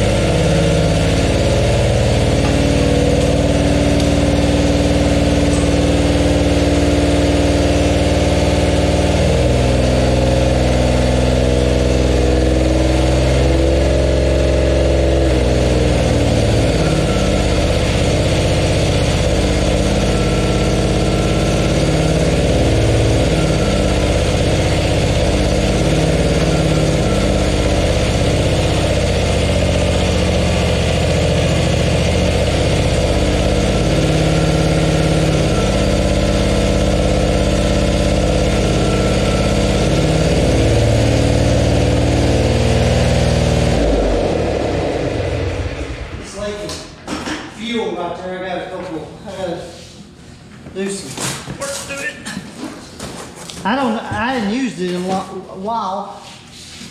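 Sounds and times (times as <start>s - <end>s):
engine idling: 0.0s - 47.0s.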